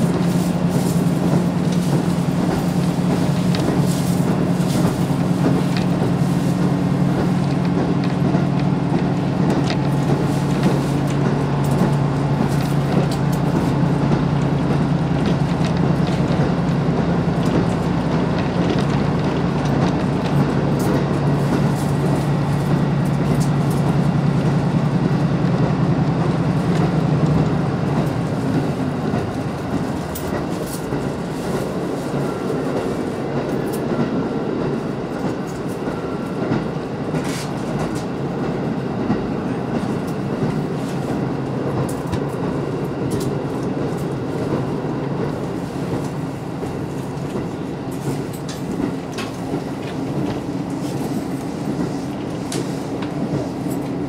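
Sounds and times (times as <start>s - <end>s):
wheels clattering on rails: 0.0s - 54.0s.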